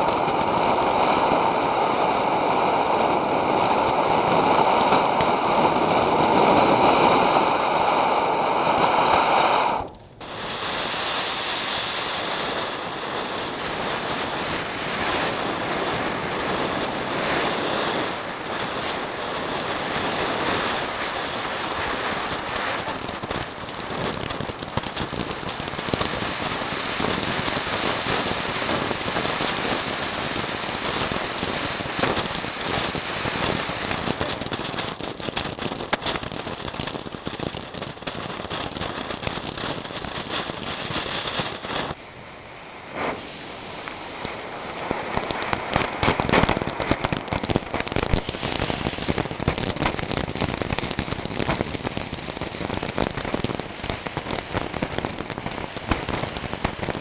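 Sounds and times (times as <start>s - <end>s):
fireworks hissing and crackling: 0.0s - 57.0s.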